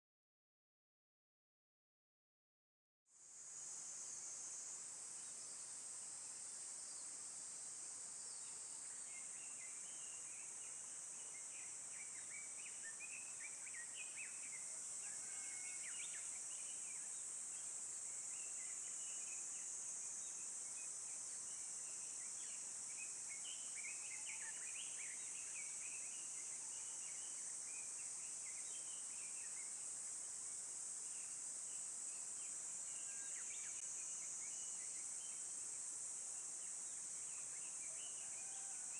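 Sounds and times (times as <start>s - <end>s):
insect chorus: 3.1s - 38.9s.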